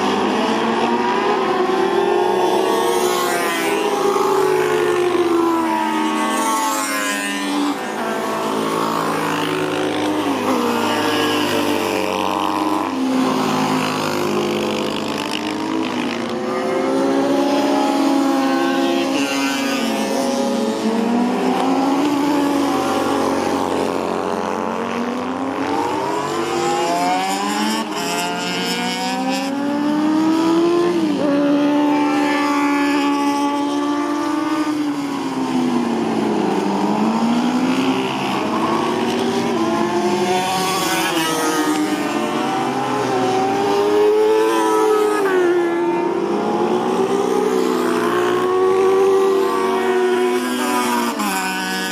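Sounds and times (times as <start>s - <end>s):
motorcycle engine revving: 1.7s - 51.9s.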